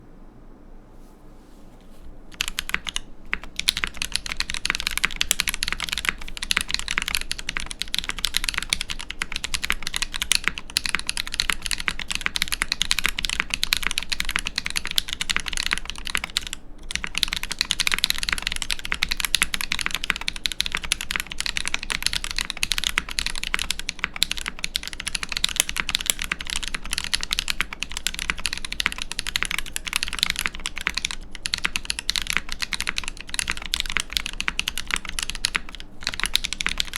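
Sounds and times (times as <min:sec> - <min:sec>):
mechanical keyboard typing: 0:02.3 - 0:36.9.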